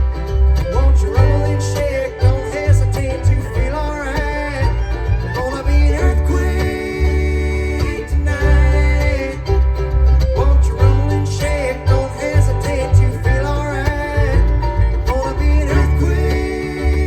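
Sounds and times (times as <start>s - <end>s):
banjo: 0.0s - 17.0s
fiddle sliding between notes: 0.0s - 17.0s
guitar: 0.0s - 17.0s
low bass line: 0.0s - 17.0s.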